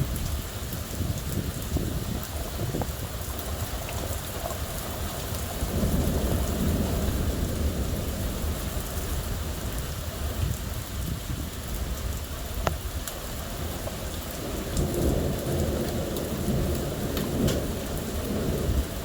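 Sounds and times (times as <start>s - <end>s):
heavy rain: 0.0s - 19.0s
low rumble of thunder: 0.0s - 19.0s.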